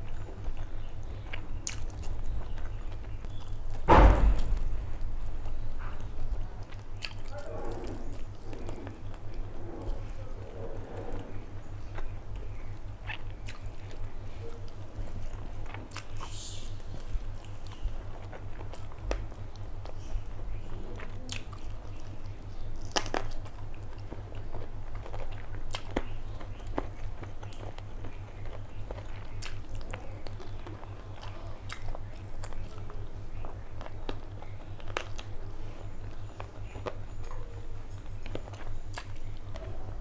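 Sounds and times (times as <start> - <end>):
close chewing with wet mouth sounds: 0.0 - 3.9, 4.6 - 40.0
fingers squishing food: 0.0 - 3.9, 4.6 - 40.0.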